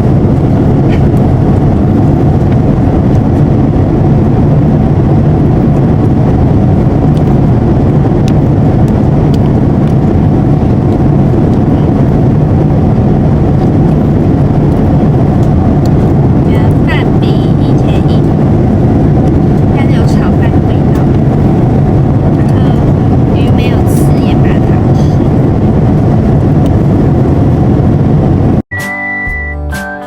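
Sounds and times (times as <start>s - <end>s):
jet airliner cabin drone: 0.0s - 28.6s.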